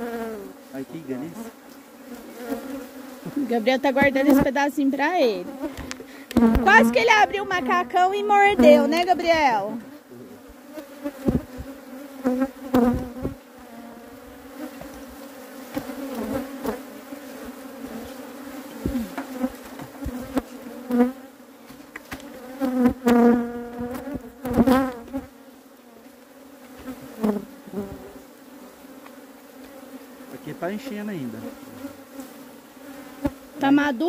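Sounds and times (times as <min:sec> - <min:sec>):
bee flying close past: 0:00.0 - 0:34.0
bees buzzing: 0:00.0 - 0:34.0.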